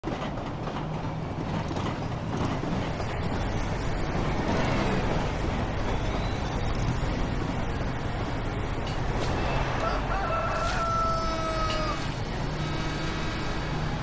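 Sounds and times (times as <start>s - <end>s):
city traffic rumble: 0.0s - 14.0s
train on elevated track: 0.0s - 14.0s.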